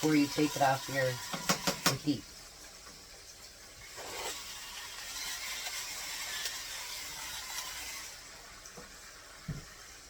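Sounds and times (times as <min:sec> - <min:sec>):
chicken sizzling in grease: 0:00.0 - 0:10.0.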